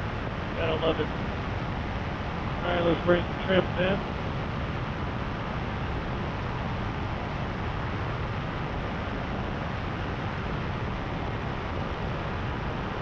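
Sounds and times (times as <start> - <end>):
paraglider engine and propeller drone: 0.0 - 13.0.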